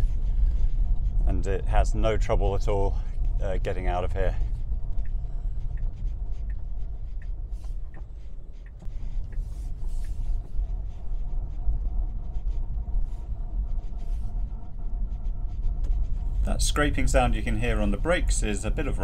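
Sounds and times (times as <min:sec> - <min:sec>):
brakes scraping: 0:00.0 - 0:19.0
tyre and road rumble: 0:00.0 - 0:19.0.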